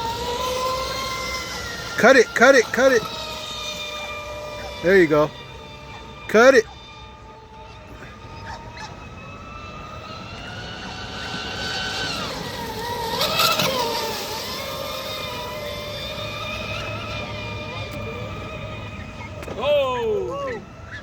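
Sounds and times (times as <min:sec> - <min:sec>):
model boat motors whining: 0:00.0 - 0:21.0.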